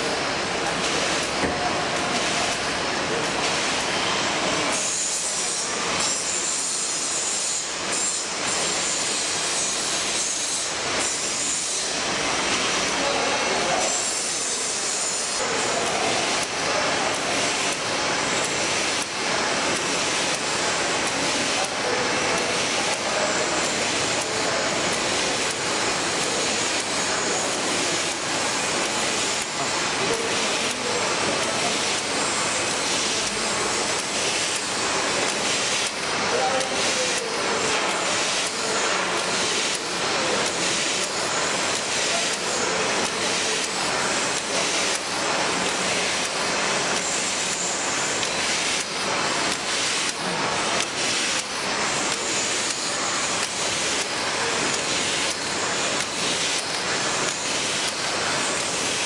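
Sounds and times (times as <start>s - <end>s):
laminator machine clatter and hiss: 0.0s - 59.0s.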